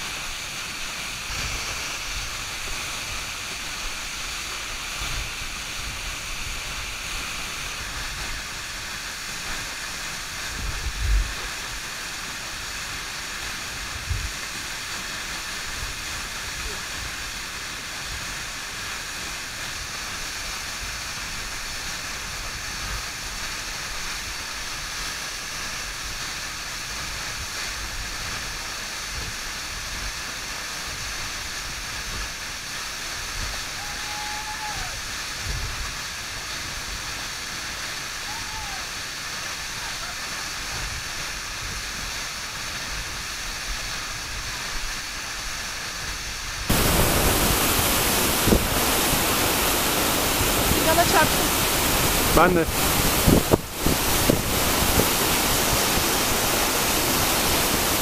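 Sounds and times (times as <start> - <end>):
waterfall pouring onto rock: 0.0 - 58.0.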